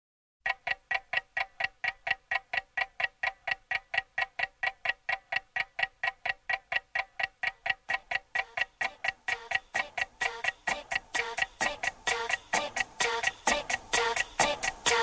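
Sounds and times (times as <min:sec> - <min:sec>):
clock-like ticking: 0:00.4 - 0:15.0.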